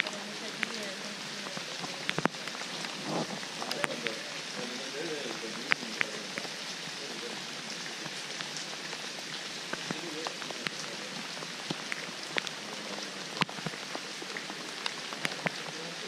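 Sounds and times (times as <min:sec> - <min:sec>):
raindrops ticking on surfaces: 0:00.0 - 0:16.0
steady rain hissing: 0:00.0 - 0:16.0.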